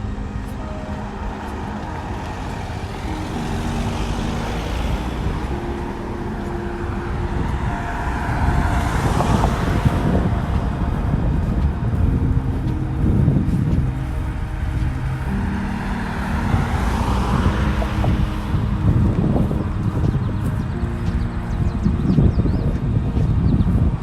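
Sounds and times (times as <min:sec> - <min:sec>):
traffic rumble: 0:00.0 - 0:24.0
vehicle passing close by: 0:00.0 - 0:24.0.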